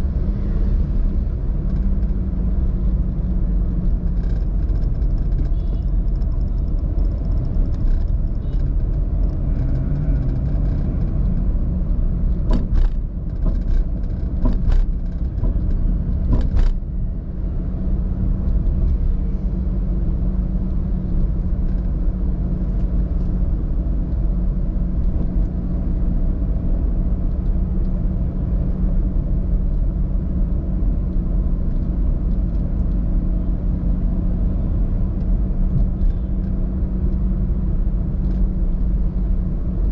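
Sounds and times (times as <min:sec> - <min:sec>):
car engine and road rumble: 0:00.0 - 0:39.9
constant low hum: 0:00.0 - 0:39.9.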